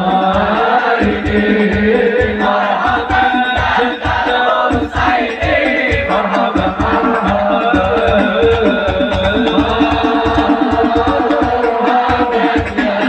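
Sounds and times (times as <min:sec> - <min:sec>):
group singing devotional songs: 0:00.0 - 0:13.0
steady drum beat: 0:00.0 - 0:13.0.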